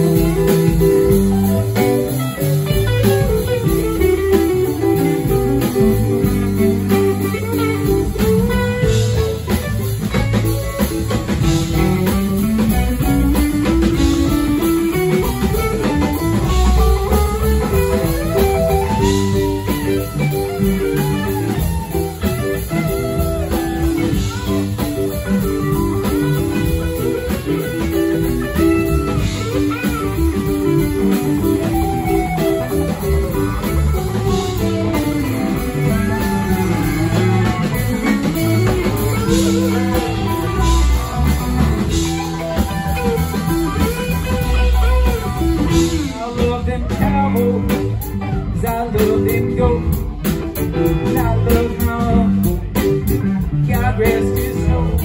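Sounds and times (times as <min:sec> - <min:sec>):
electric guitar melody: 0:00.0 - 0:55.0
live band playing: 0:00.0 - 0:55.0.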